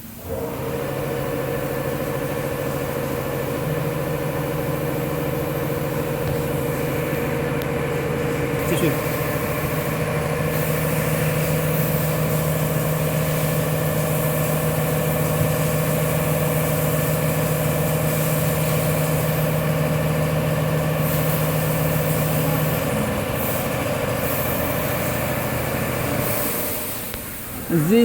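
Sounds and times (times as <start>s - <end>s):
router motors humming: 0.2s - 26.9s
high motor whine: 0.2s - 27.2s.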